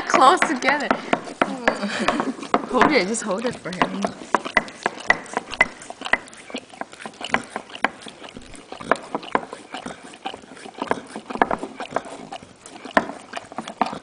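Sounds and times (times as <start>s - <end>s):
dog licking from a cup: 0.0s - 14.0s.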